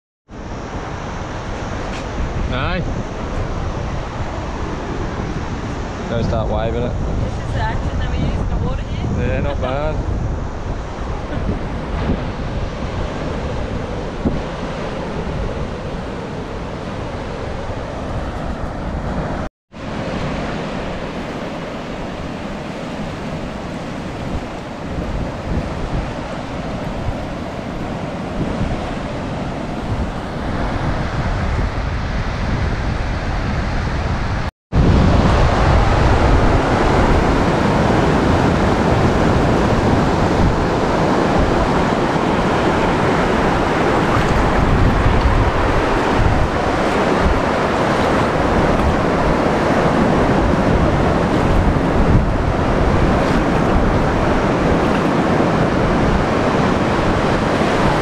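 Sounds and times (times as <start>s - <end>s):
surf washing up a beach: 0.3s - 58.0s
wind buffeting microphone: 0.3s - 58.0s.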